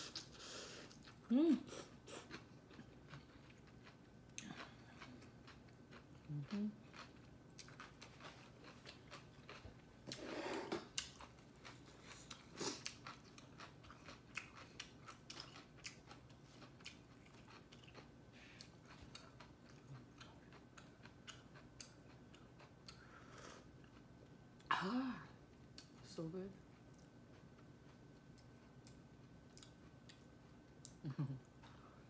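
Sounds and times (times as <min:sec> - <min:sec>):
chewing with wet clicks: 0:00.2 - 0:01.2, 0:02.3 - 0:09.9, 0:10.9 - 0:23.1, 0:25.5 - 0:26.0, 0:26.6 - 0:31.8.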